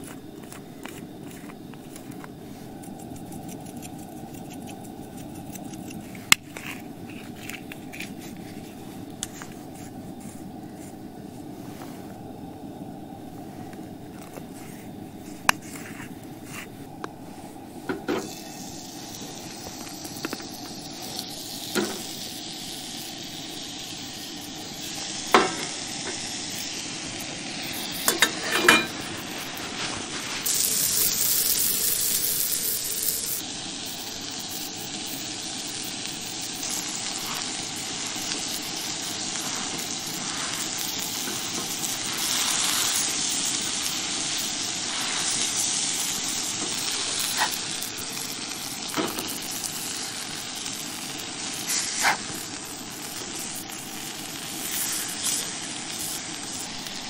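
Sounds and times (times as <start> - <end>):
burger patties sizzling in skillet: 0.0 - 57.0.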